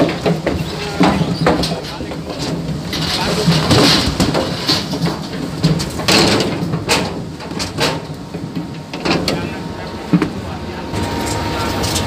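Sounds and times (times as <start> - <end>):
hooves knocking on ramp: 0.0 - 10.5.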